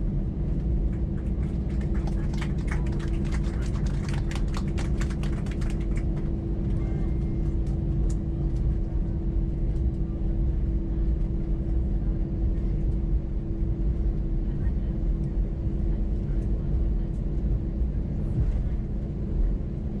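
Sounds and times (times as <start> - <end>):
airplane cabin rumble and hum: 0.0 - 20.0.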